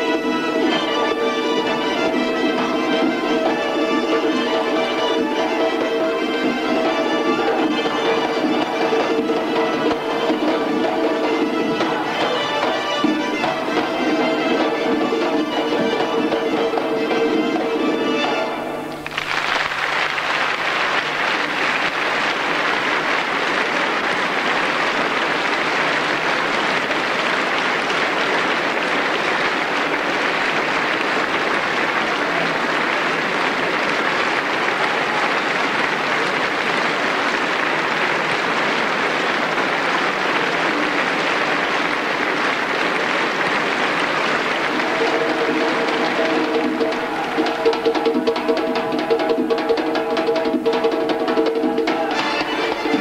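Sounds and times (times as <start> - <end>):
audience applause: 0.0 - 53.0.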